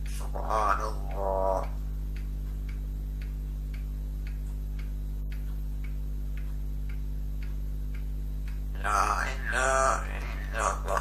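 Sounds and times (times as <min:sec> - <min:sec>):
faint regular ticking: 0:00.0 - 0:11.0
low electrical hum: 0:00.0 - 0:11.0.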